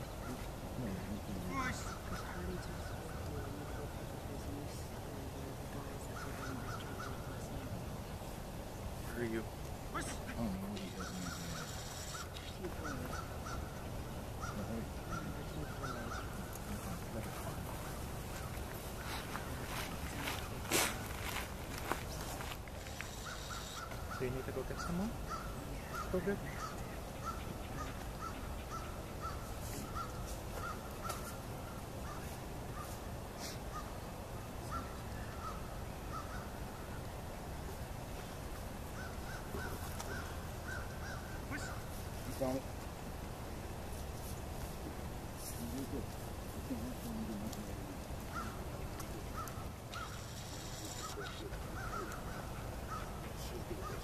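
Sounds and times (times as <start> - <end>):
birds calling: 0.0 - 43.0, 43.9 - 54.0
low outdoor background noise: 0.0 - 54.0
steady low background noise: 0.0 - 54.0.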